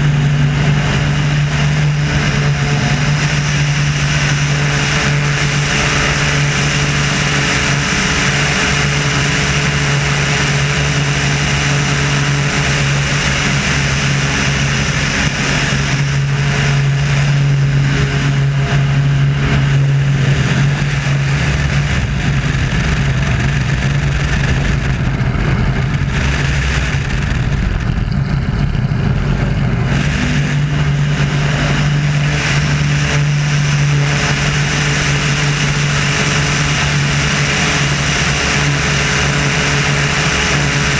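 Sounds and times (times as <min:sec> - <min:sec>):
airplane engine and propeller: 0:00.0 - 0:40.9
wind rush over microphone: 0:00.0 - 0:40.9.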